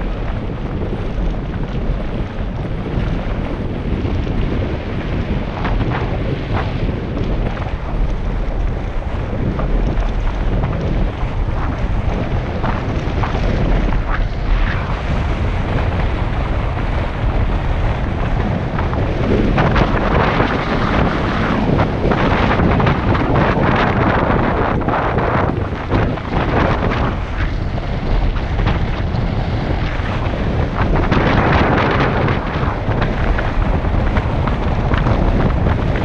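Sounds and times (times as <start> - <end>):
tyres crunching on rough road: 0.0 - 36.0
wind buffeting microphone: 0.0 - 36.0.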